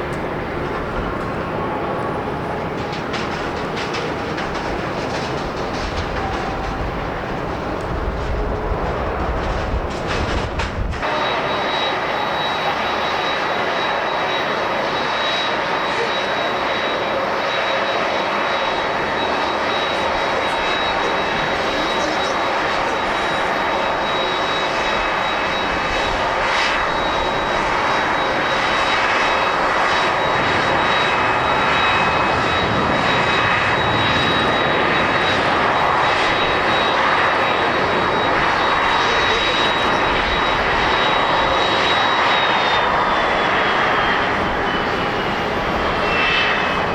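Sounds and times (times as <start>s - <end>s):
jet engines rushing and whining: 0.0s - 46.9s.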